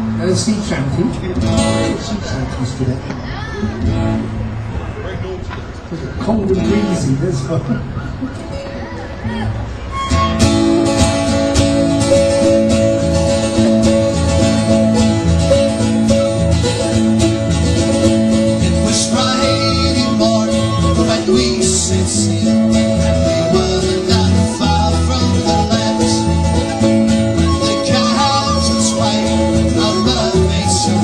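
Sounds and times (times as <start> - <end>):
folk band playing a shanty: 0.0 - 31.0.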